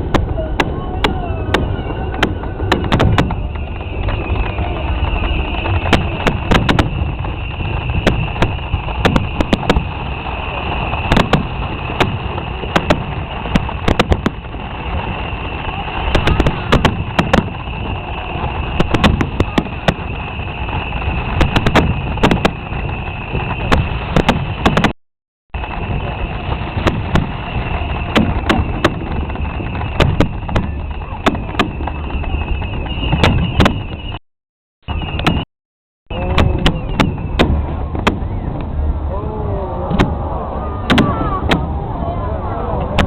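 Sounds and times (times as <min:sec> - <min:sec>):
low rumble: 0:00.0 - 0:24.9, 0:25.6 - 0:34.2, 0:36.1 - 0:43.0
fireworks bangs and crackles: 0:00.0 - 0:34.2, 0:34.8 - 0:35.5, 0:36.1 - 0:43.0.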